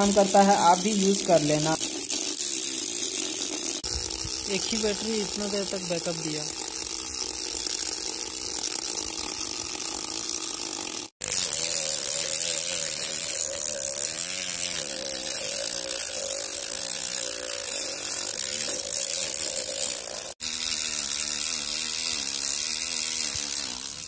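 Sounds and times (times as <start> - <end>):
small motor humming: 0.0 - 24.0.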